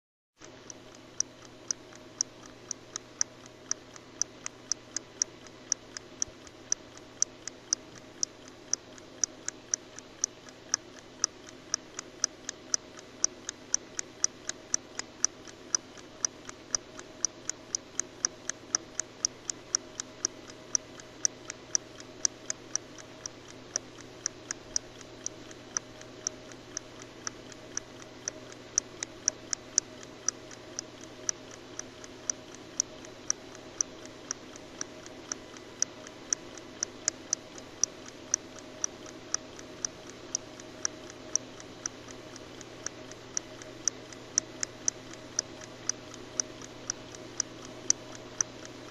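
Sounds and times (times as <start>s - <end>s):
clock ticking: 0.4s - 48.9s.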